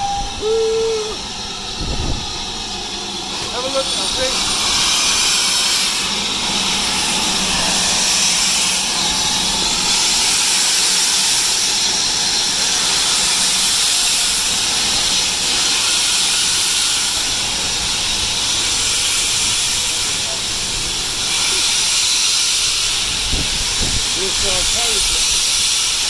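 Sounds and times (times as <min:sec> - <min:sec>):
locomotive rolling past: 0:00.0 - 0:26.0
loud hiss of steam: 0:00.0 - 0:26.0.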